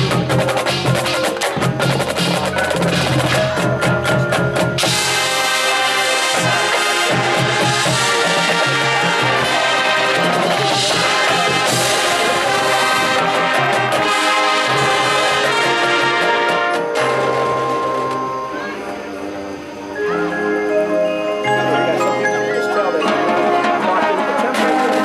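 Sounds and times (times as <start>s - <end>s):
marching band playing: 0.0s - 25.0s.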